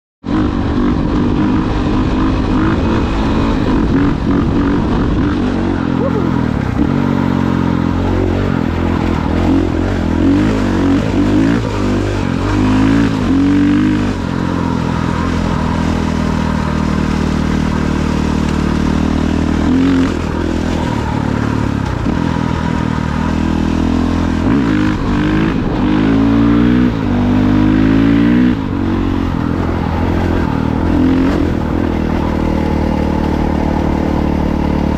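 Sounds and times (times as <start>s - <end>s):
off-road engines revving: 0.2s - 34.9s.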